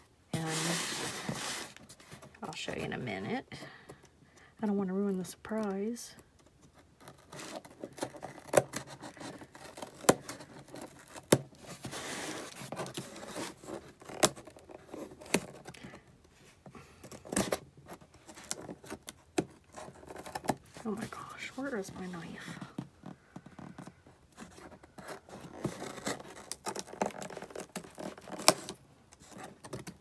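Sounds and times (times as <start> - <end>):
cardboard scraping or tearing: 0.3 - 2.7, 6.7 - 30.0.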